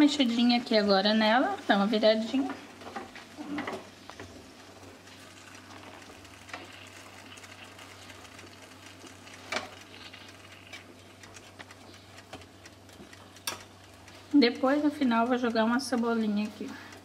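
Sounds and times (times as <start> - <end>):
sausages sizzling faintly: 0.0 - 17.0.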